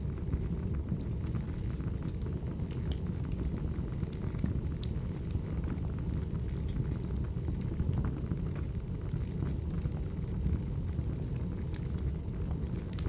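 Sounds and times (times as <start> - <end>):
low rumble of flames: 0.0 - 13.0
logs crackling and popping: 0.1 - 13.0.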